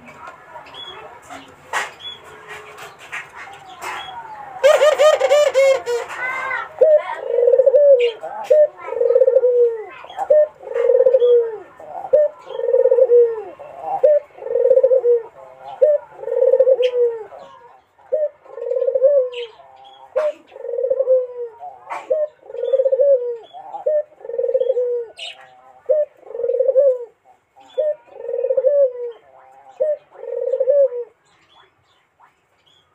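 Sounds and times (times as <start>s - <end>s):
dove cooing: 3.5s - 31.2s.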